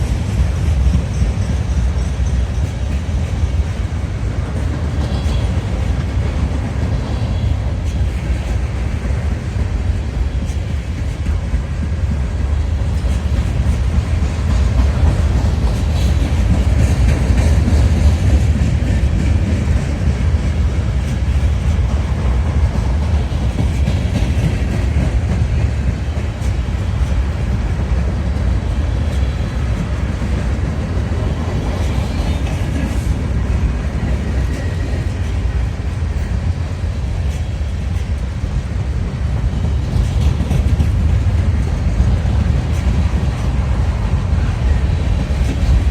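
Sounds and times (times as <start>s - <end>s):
freight train rumbling on track: 0.0s - 45.9s.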